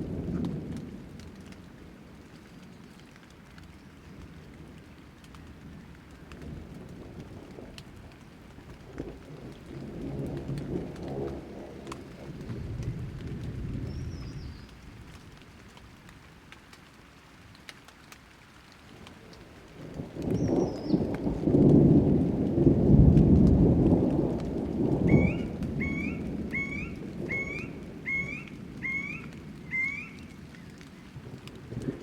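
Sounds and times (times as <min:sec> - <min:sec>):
thunder rumbling: 0:00.0 - 0:02.2, 0:04.2 - 0:16.0, 0:19.1 - 0:32.0
light rain: 0:00.0 - 0:32.0
water drips ticking: 0:00.1 - 0:32.0.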